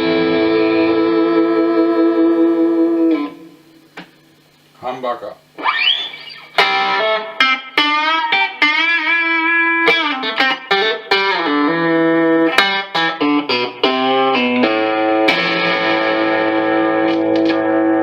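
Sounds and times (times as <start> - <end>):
electric guitar lead line: 0.0 - 4.4, 5.4 - 18.0.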